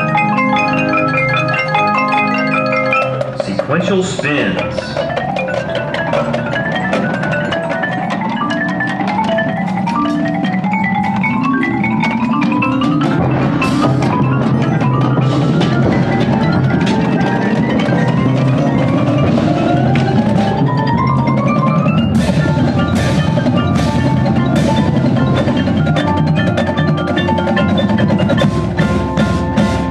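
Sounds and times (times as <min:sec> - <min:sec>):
marimbas played with mallets: 0:00.0 - 0:29.9.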